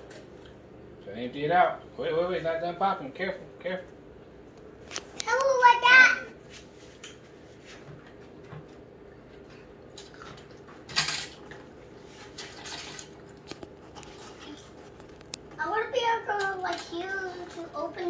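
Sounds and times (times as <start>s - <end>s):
popcorn machine humming: 0.0s - 18.0s.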